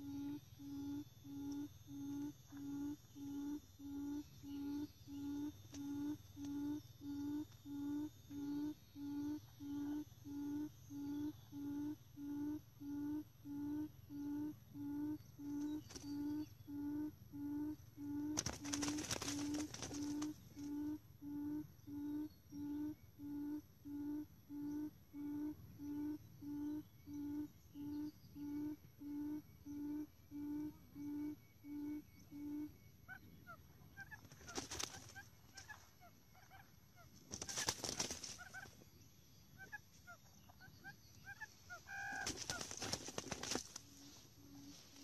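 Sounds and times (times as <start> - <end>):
faint high chirps: 0.0 - 36.7
quail lure call hooting: 0.0 - 36.7, 40.6 - 45.0.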